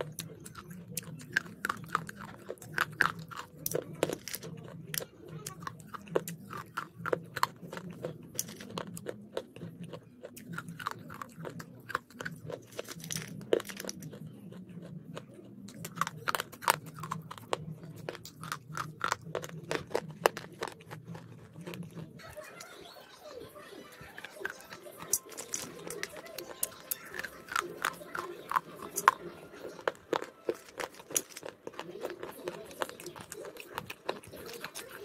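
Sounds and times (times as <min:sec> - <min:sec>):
crisp crunching and chewing: 0:00.0 - 0:35.0.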